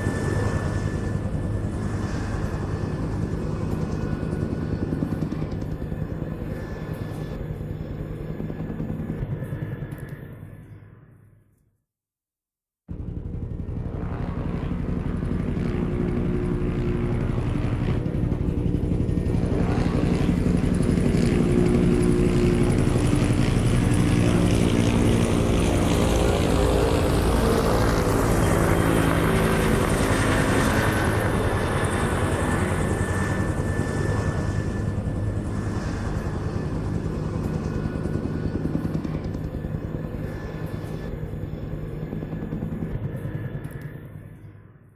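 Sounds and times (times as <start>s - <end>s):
helicopter rotor beat: 0.0s - 10.6s, 12.9s - 44.7s
helicopter engine whine: 0.0s - 11.2s, 12.9s - 44.9s.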